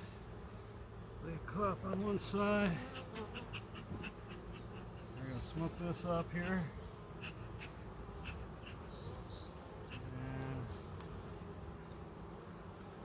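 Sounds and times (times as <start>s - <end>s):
bee buzzing close by: 0.0s - 13.0s
honeybees buzzing: 0.0s - 13.0s.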